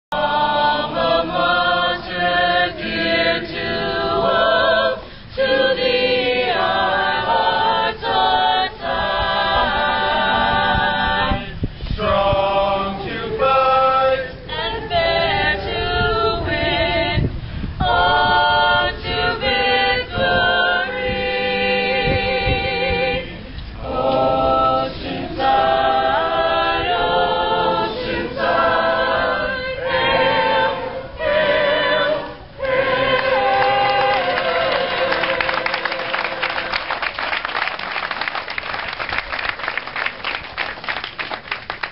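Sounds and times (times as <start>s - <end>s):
group singing a cappella: 0.0s - 37.2s.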